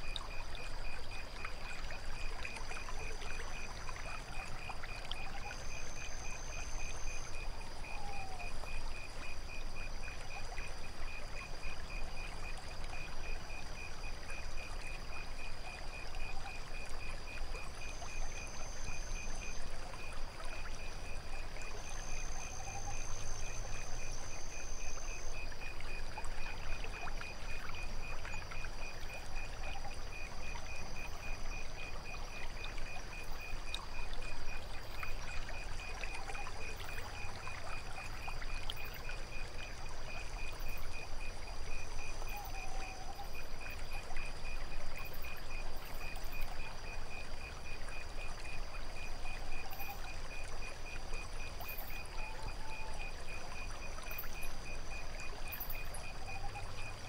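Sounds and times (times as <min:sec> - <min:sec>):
cricket chirping: 0:00.0 - 0:57.0
high insect trills: 0:00.0 - 0:57.0
water trickling: 0:00.0 - 0:57.0.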